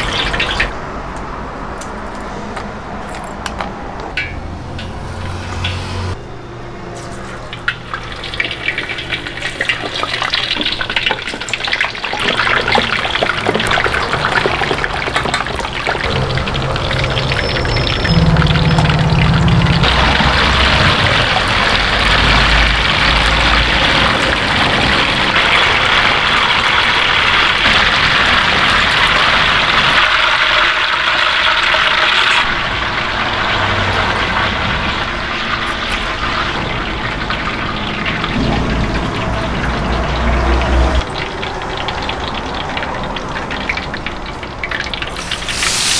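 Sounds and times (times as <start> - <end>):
hot oil sizzling in deep fryer: 0.0 - 0.7, 7.2 - 45.9.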